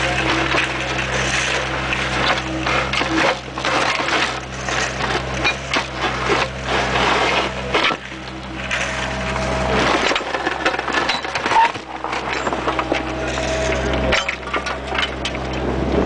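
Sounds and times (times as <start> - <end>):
bucket scraping through earth: 0.0 - 16.0
excavator engine running: 0.0 - 16.0.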